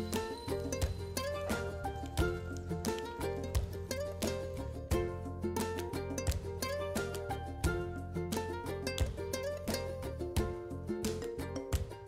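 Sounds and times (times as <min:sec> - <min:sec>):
plucked-string tune over bass beat: 0:00.0 - 0:12.0.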